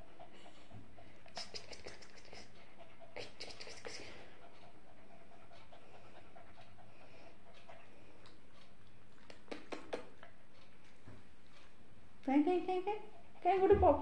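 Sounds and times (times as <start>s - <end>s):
puppy panting: 0.0s - 11.8s, 12.8s - 14.0s.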